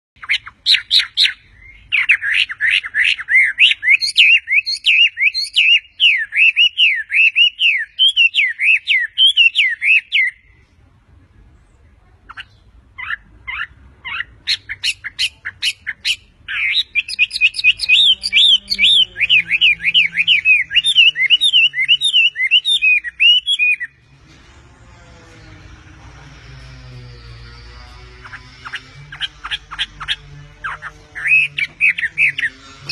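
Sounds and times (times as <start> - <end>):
songbird chirping: 0.2 - 32.9.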